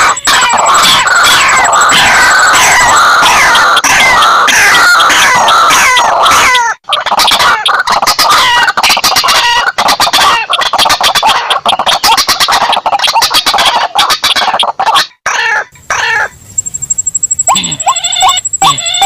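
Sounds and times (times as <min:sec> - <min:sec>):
harsh clicking bird notes: 0:00.0 - 0:15.1, 0:16.6 - 0:19.0.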